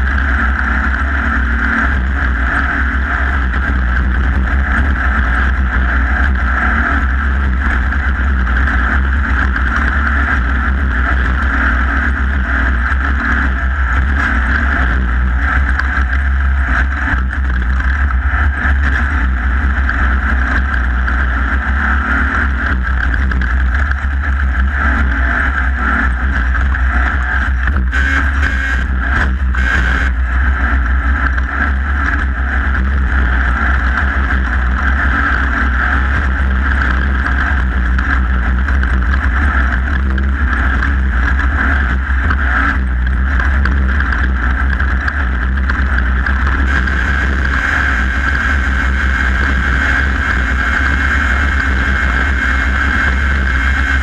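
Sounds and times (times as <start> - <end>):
loud off-road vehicle engine drone: 0.0 - 54.0.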